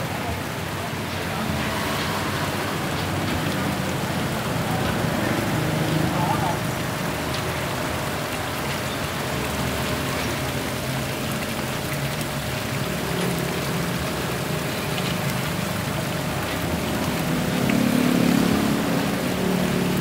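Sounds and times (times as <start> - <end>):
water splashing over rocks: 0.0 - 20.0.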